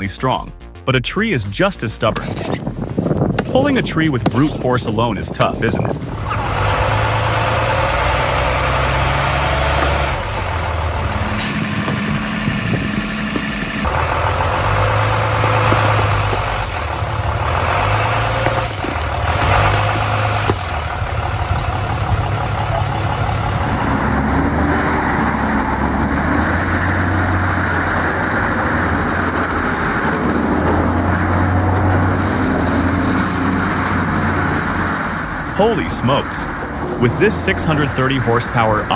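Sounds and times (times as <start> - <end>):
heavy vehicle engine running: 1.6 - 38.9.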